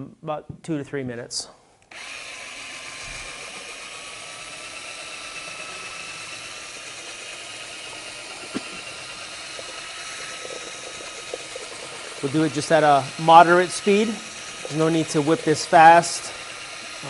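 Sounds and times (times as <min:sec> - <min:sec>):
drill spinning mixing paddle: 0:01.9 - 0:17.0.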